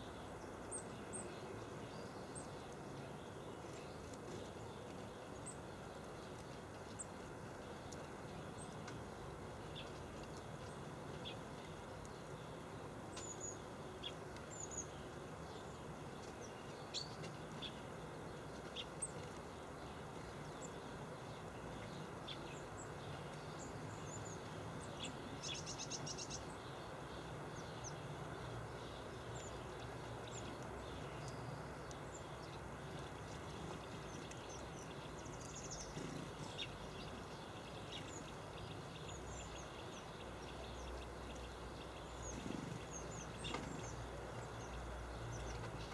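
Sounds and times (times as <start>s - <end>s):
small birds chirping: 0.0s - 45.9s
steady background noise: 0.0s - 45.9s.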